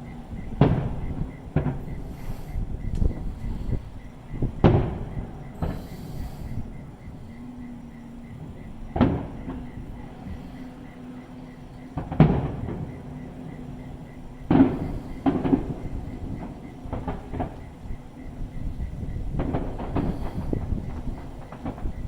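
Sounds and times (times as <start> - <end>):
fireworks exploding: 0.0 - 22.0.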